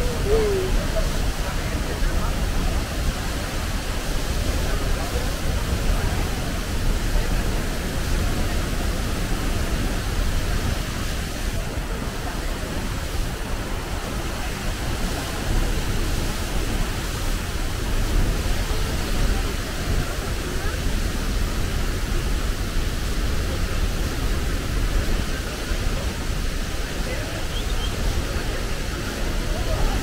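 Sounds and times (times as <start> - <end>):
waterfall crashing: 0.0 - 30.0.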